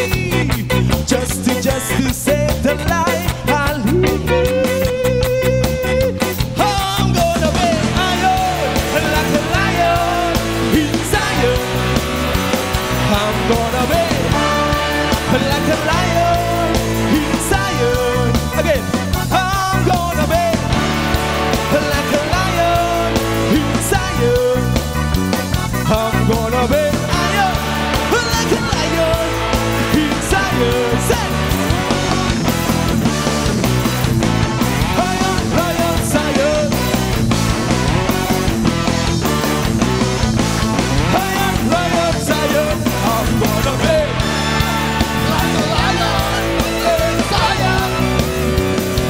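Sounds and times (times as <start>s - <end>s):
bass guitar: 0.0s - 49.0s
drum kit: 0.0s - 49.0s
electric guitars: 0.0s - 49.0s.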